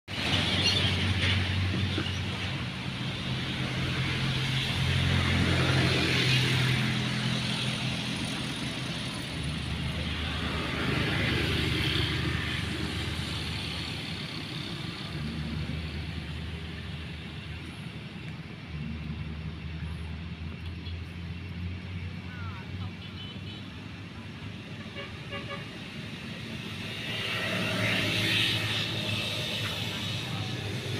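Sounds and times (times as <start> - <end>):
motor traffic passing: 0.1 - 30.9.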